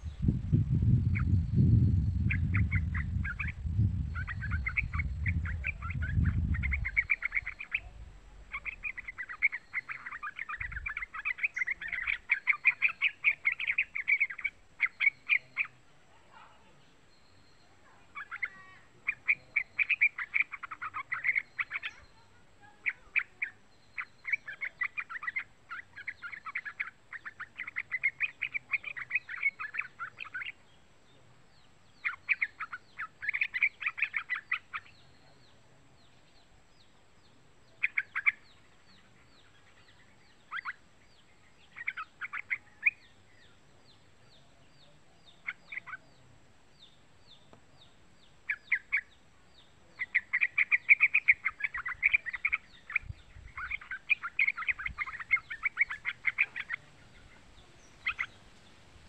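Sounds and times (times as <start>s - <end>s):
bird chattering calls: 0.0s - 15.8s, 17.2s - 30.7s, 32.0s - 35.5s, 37.7s - 43.6s, 45.2s - 46.2s, 48.4s - 49.2s, 49.9s - 58.8s.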